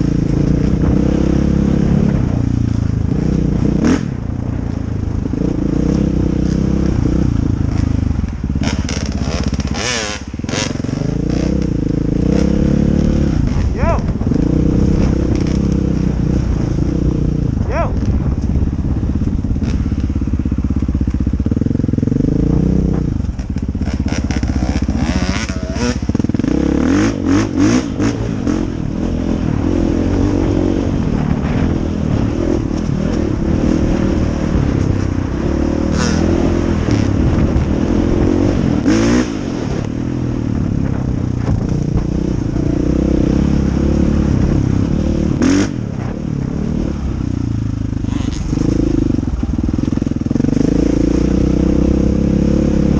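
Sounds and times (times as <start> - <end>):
dirt bike engine revving: 0.0 - 47.2, 47.9 - 52.9.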